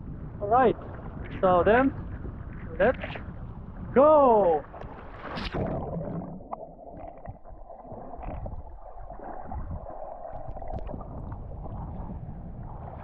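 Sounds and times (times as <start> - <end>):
water sloshing and gurgling: 0.0 - 13.0.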